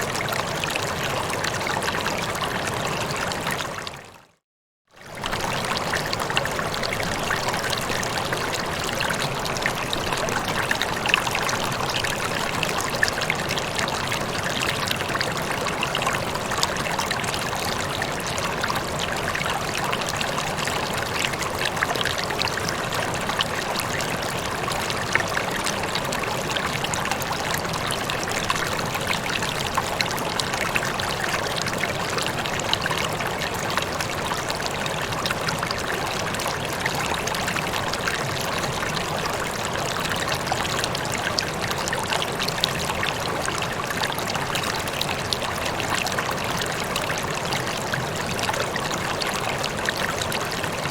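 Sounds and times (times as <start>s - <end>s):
water trickling and babbling: 0.0s - 50.9s.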